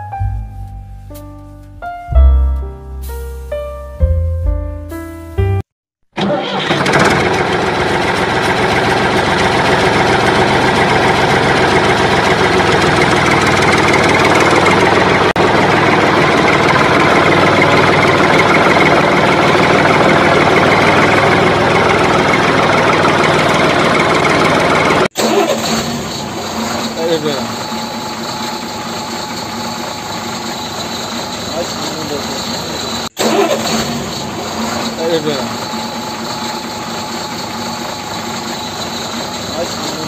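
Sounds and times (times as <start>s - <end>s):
vehicle engine running: 6.6s - 40.0s.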